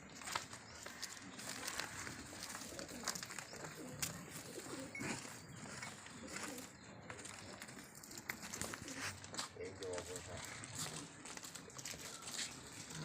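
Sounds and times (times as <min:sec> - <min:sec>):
pigeons cooing: 0:00.2 - 0:13.0.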